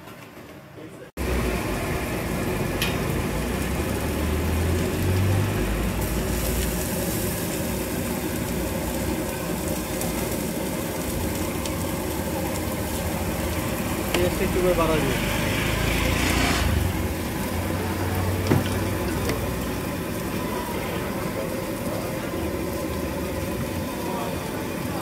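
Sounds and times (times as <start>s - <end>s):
food sizzling in hot oil: 1.2s - 25.0s
traffic rumble: 1.2s - 25.0s.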